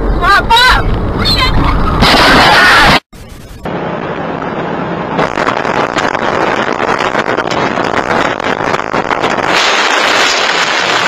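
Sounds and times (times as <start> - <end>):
vehicle and wind rushing: 0.0 - 11.0.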